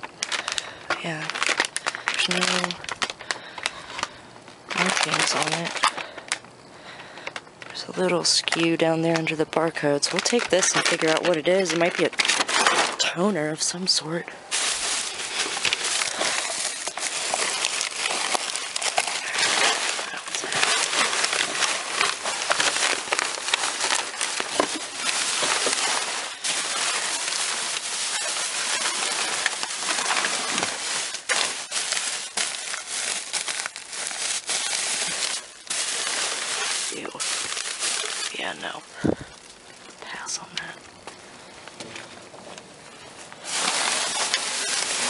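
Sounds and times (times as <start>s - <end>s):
plastic and paper rustling: 0.0s - 45.0s.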